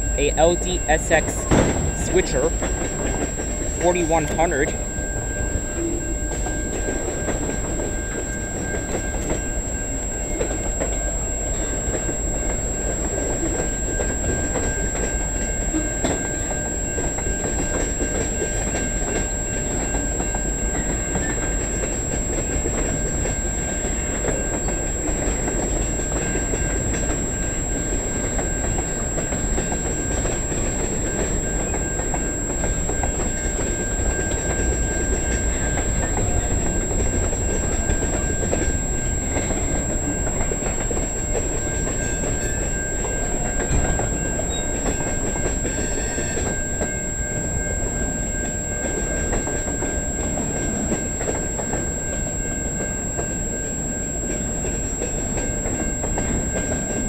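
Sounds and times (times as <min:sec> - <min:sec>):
steel wheels rolling on rails: 0:00.8 - 0:57.0.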